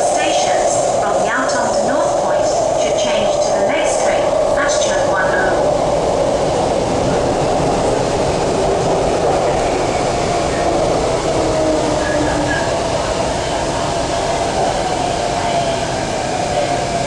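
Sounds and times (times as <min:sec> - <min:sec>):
metro wheels rumbling on rail: 0:00.0 - 0:17.0.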